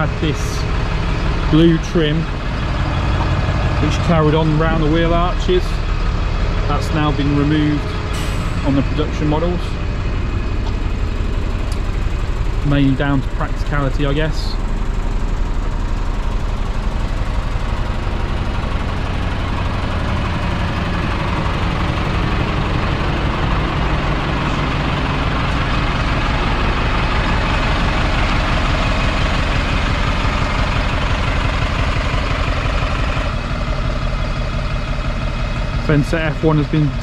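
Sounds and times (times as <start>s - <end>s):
bus diesel engine idling: 0.0s - 37.0s.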